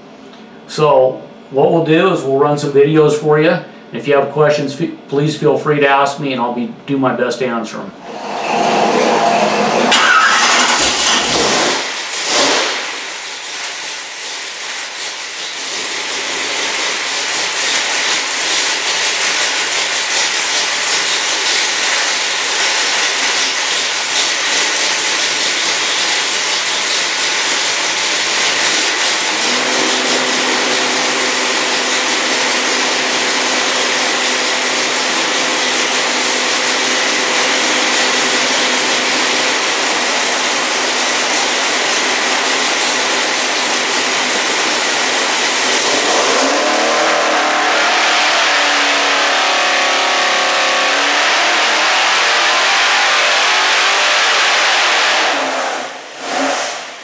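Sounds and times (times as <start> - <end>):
car engine running loud: 8.0 - 57.0.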